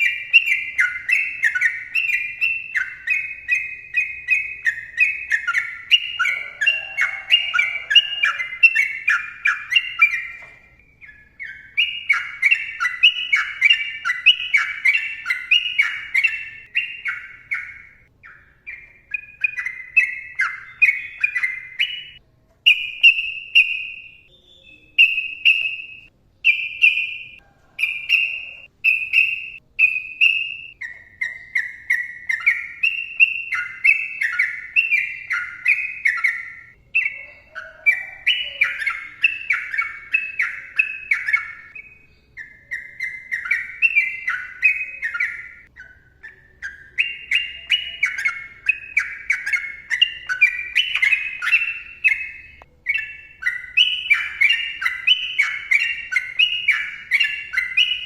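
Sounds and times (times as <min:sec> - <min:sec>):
bulbul singing whistled notes: 0:00.0 - 0:58.0.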